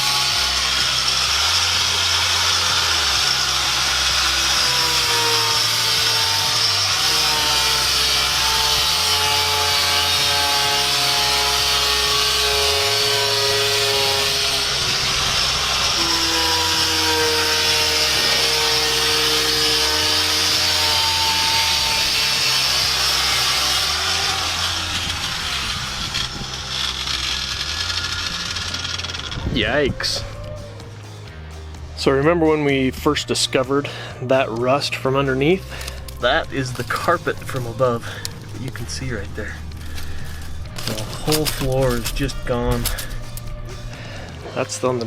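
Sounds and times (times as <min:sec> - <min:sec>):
power tool grinding metal: 0:00.0 - 0:30.2, 0:32.1 - 0:45.0
music with bass line: 0:00.0 - 0:45.0.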